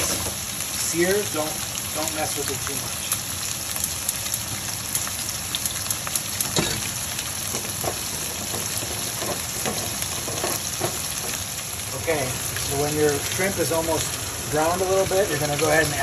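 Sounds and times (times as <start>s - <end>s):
shrimp sizzling in oil: 0.0s - 16.0s.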